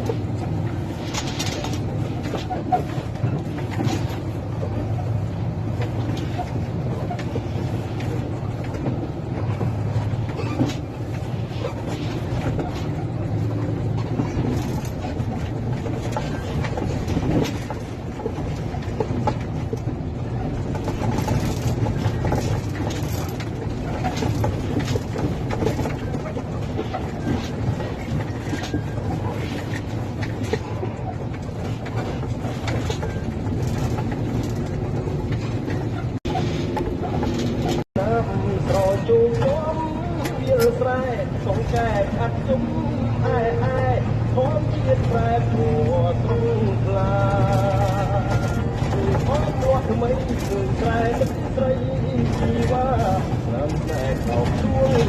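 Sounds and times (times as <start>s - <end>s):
knocks and rattles: 0.0s - 42.6s, 47.0s - 55.0s
truck engine running: 0.0s - 55.0s.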